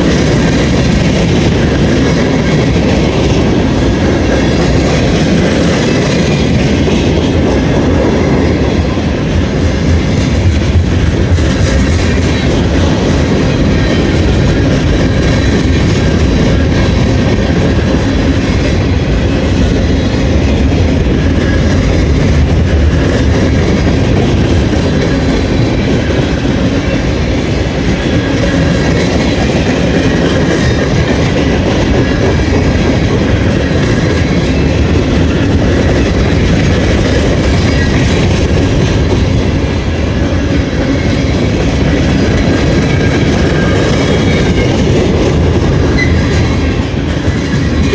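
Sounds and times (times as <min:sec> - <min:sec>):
clickety-clack over rail joints: 0:00.0 - 0:47.9
train wheels rumbling on rails: 0:00.0 - 0:47.9.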